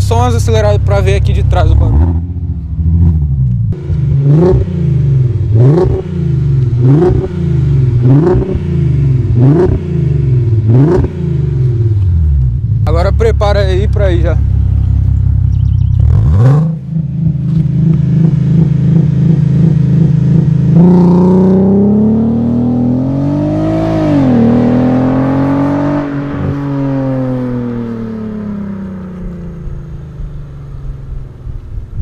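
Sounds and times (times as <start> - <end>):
car engine revving: 0.0 - 31.6.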